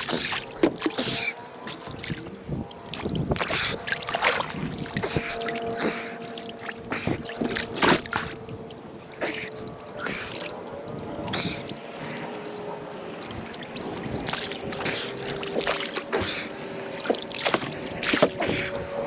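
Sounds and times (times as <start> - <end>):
faint hum: 0.0 - 19.0
water splashing and sloshing: 0.0 - 19.0.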